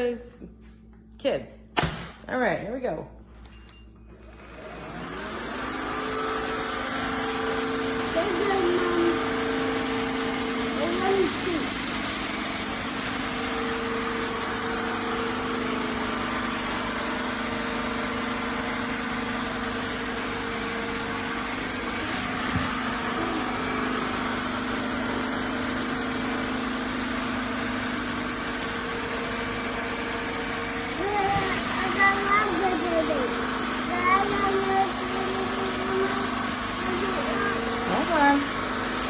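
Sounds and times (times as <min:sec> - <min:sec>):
floor cleaner motor hum and suction: 0:04.1 - 0:39.0.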